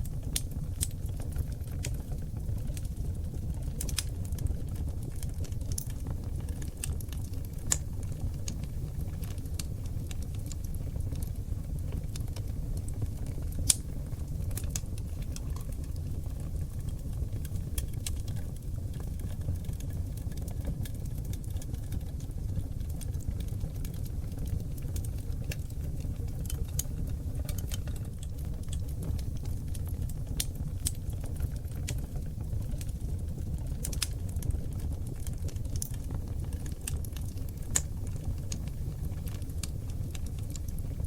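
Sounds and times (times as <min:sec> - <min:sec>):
fire crackles and pops: 0:00.0 - 0:41.0
fire flames rumbling: 0:00.0 - 0:41.0.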